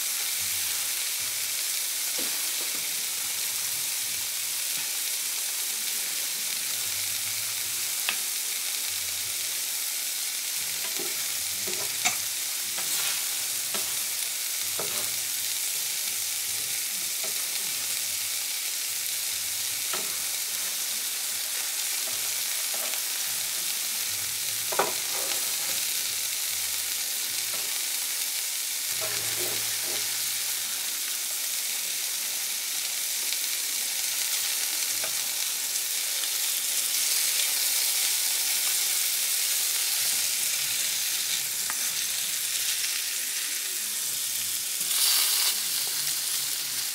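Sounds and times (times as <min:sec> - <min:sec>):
eggs sizzling on a griddle: 0:00.0 - 0:46.9.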